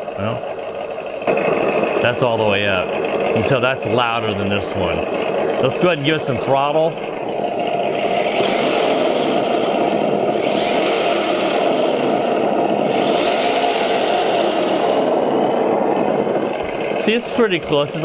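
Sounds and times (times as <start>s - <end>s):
simulated car engine revving: 1.2s - 18.0s.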